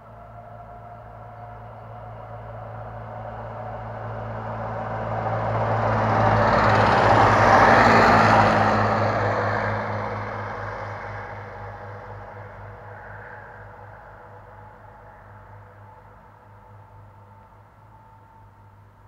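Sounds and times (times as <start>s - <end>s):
diesel train engine drone: 0.0s - 19.0s
wheels rumbling on rail: 0.0s - 19.0s.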